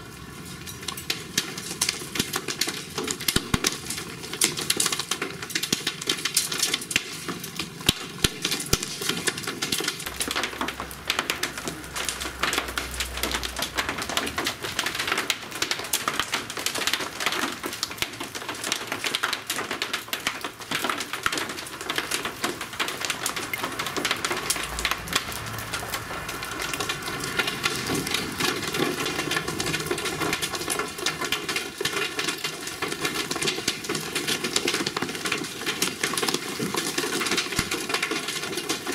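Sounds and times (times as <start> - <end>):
rain pattering on hard surfaces: 0.0 - 38.9.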